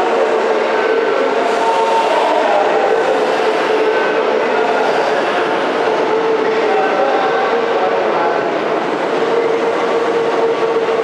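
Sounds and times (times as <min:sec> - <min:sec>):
underground train noise: 0:00.0 - 0:11.0.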